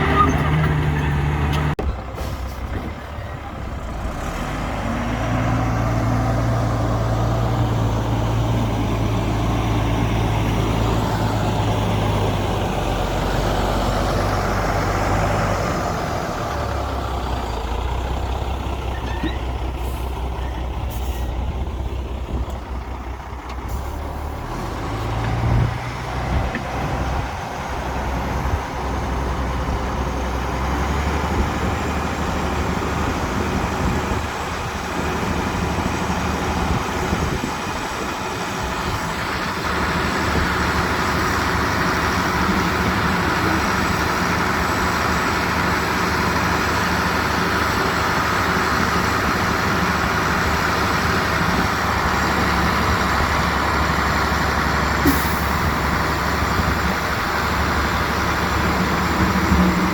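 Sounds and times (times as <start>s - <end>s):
diesel construction machinery: 0.0s - 59.9s.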